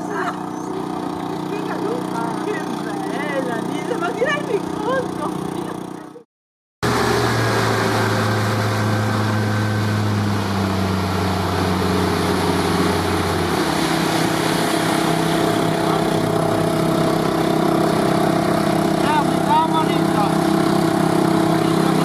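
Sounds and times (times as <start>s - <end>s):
water wash from boat: 0.0s - 6.0s, 6.8s - 22.0s
outboard motor running: 0.0s - 22.0s.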